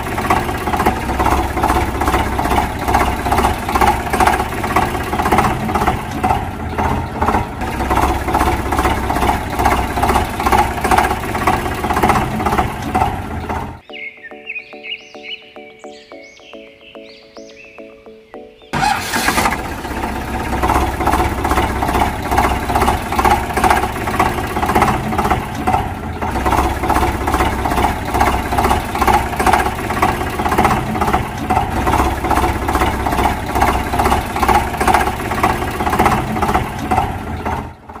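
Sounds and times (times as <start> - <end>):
tractor engine chugging: 0.0 - 13.8, 18.7 - 38.0.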